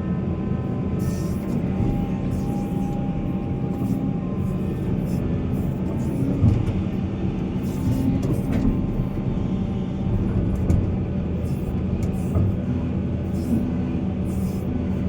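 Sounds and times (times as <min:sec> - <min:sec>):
heavy diesel machinery rumble: 0:00.0 - 0:15.0.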